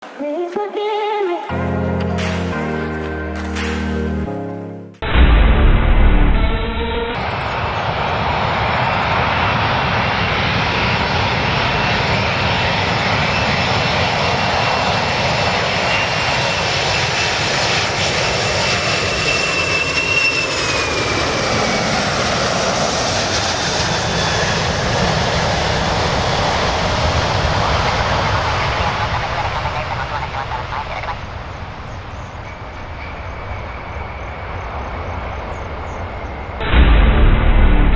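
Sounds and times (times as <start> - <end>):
airplane engines running: 1.5 - 37.9.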